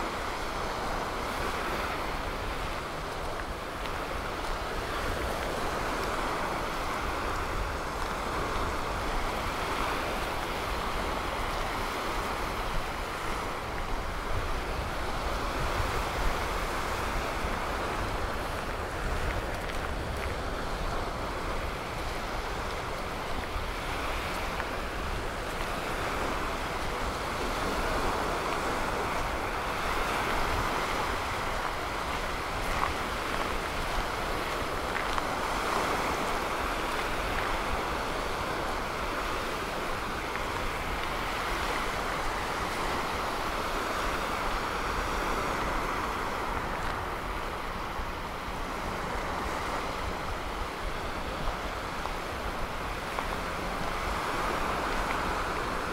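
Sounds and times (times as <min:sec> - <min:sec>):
surf washing onto beach: 0:00.0 - 0:55.9
wind rumbling on microphone: 0:00.0 - 0:55.9.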